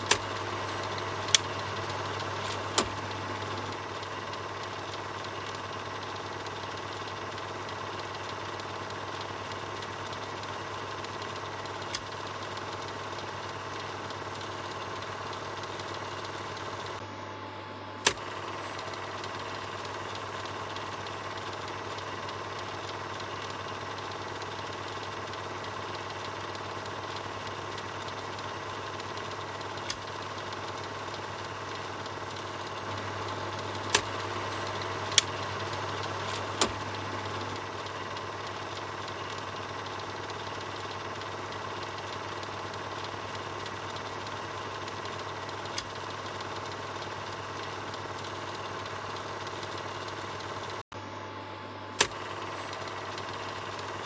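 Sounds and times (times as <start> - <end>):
sharp clicks: 0.0 - 17.0, 18.0 - 50.8, 52.0 - 54.0
film projector whirring: 0.0 - 54.0.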